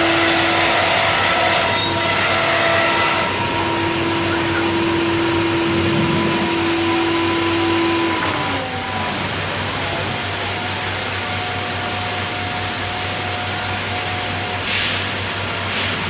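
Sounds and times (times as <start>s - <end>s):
router machine whining: 0.0s - 14.5s.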